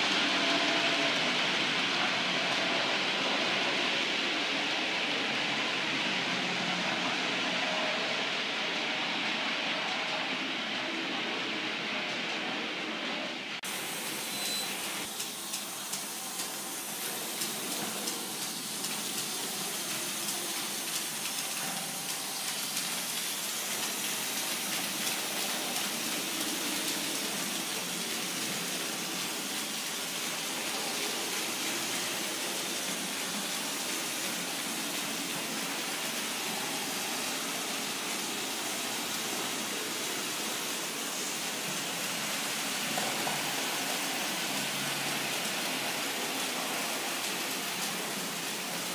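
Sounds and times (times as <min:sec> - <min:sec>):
model train running on track: 0:00.0 - 0:48.9.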